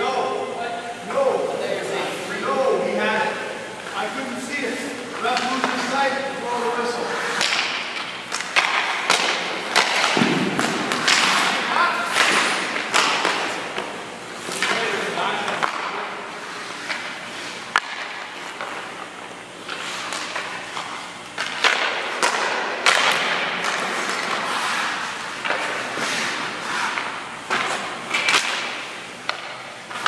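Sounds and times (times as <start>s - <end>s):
hockey sticks knocking pucks: 3.8s - 30.0s
skate blades scraping ice: 4.0s - 19.0s, 19.6s - 29.0s.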